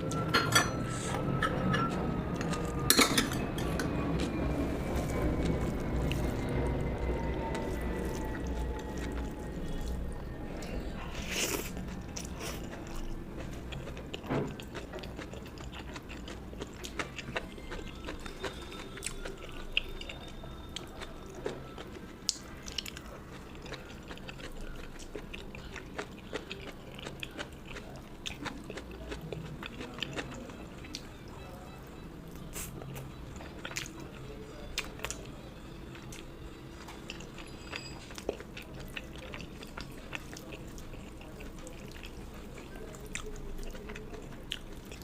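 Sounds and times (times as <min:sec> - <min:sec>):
person chewing and eating: 0:00.9 - 0:45.0
food crunching: 0:01.5 - 0:45.0.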